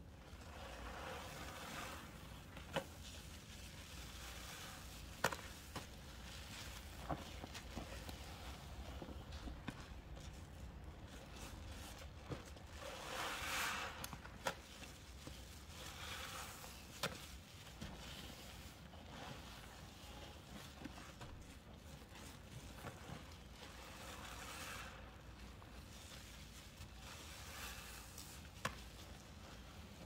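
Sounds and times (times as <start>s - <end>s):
hands squeezing soapy sponges: 0.1s - 30.0s.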